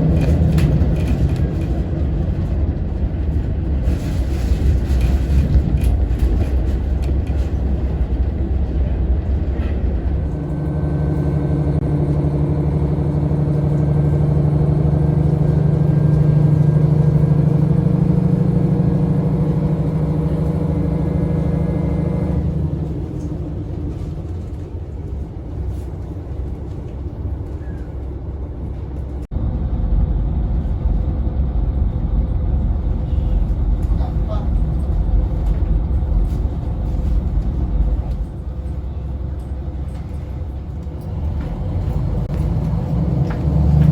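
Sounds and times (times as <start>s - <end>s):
diesel engine droning: 0.0s - 43.9s
railcar rumbling over rails: 0.0s - 43.9s.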